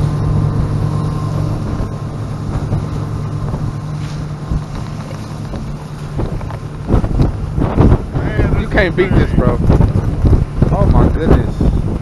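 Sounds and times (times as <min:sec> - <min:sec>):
motorboat engine droning: 0:00.0 - 0:12.0
water rushing past: 0:00.0 - 0:12.0
wind rushing: 0:00.0 - 0:12.0.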